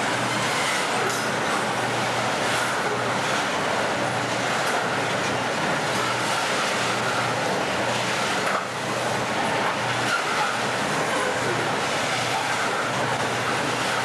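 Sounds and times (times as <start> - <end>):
diesel locomotive drone: 0.0 - 14.0
train wagons rolling on rails: 0.0 - 14.0.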